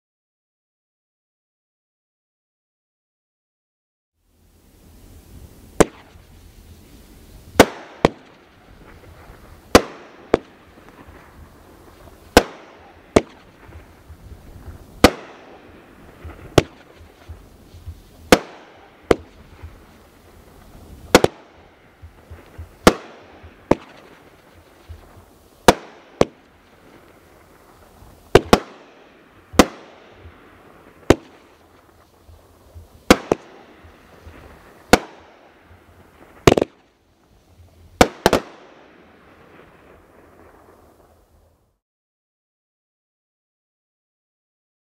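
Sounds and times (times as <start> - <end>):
firework bangs with hiss: 4.6 - 41.6.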